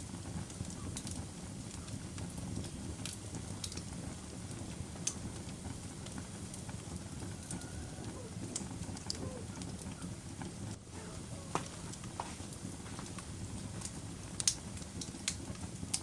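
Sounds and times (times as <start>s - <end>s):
fire crackles and pops: 0.0s - 16.0s
low rumble of flames: 0.0s - 16.0s.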